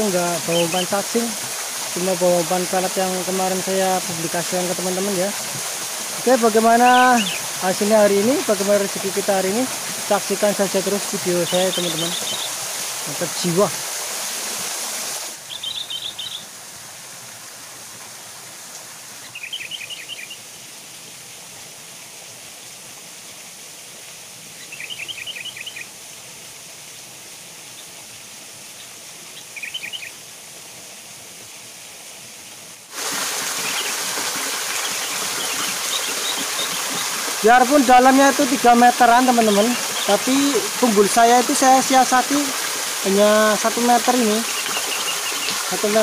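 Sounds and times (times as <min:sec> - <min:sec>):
waterfall and stream rushing: 0:00.0 - 0:46.0.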